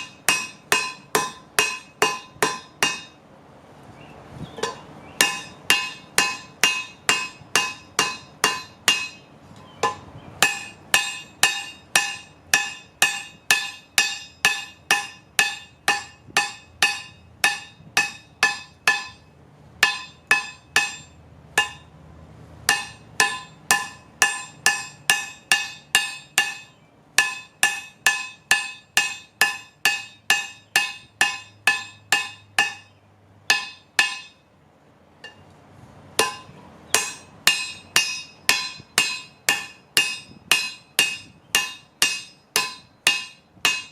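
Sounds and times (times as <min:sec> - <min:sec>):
hammer striking an anvil: 0:00.0 - 0:03.2, 0:04.6 - 0:21.9, 0:22.7 - 0:34.4, 0:36.2 - 0:43.9.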